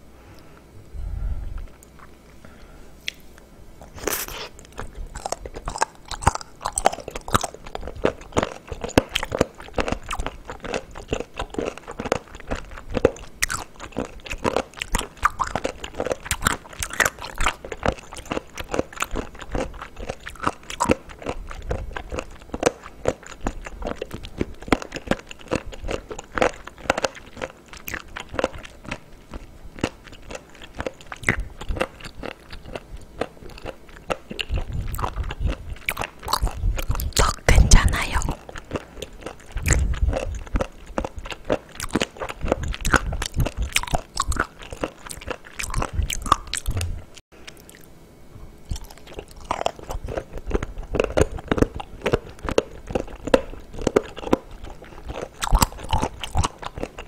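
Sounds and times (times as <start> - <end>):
close chewing with crisp crunches: 1.5 - 57.0.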